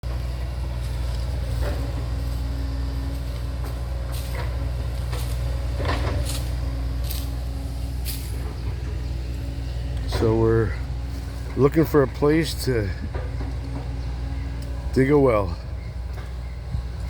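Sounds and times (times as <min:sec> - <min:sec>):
backhoe engine rumbling: 0:00.0 - 0:17.0.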